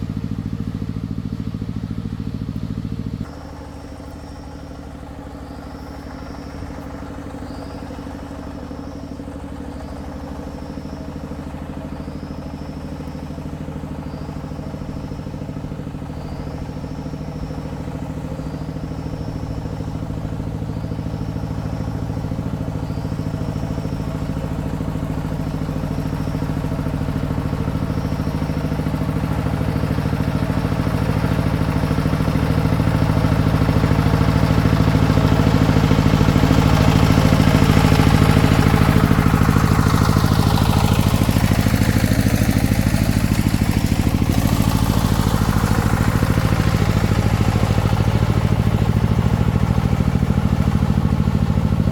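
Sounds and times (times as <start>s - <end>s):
faint high chirp: 0.0s - 51.8s
farm vehicle engine running: 0.0s - 51.9s.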